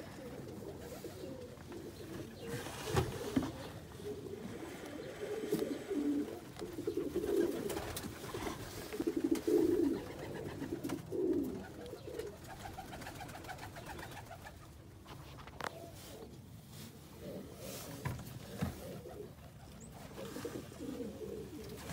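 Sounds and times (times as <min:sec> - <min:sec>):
pigeon cooing: 0:00.0 - 0:14.6, 0:15.6 - 0:21.9.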